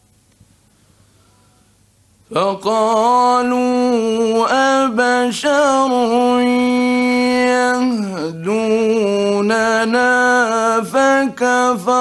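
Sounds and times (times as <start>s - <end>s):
man reciting melodically: 2.3s - 12.0s.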